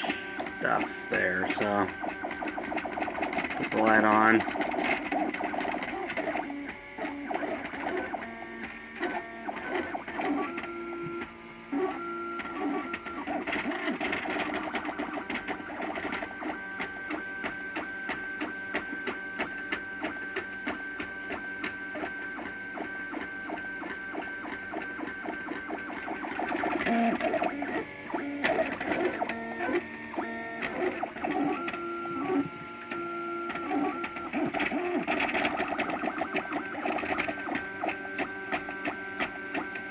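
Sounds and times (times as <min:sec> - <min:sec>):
stepper motors whining: 0:00.0 - 0:16.9, 0:21.3 - 0:39.9.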